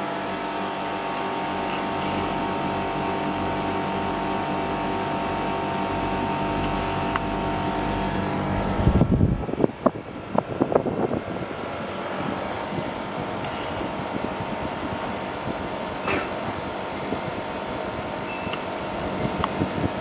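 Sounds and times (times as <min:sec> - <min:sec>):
air conditioner airflow rush: 0:00.0 - 0:20.0
faint steady whine: 0:00.0 - 0:20.0.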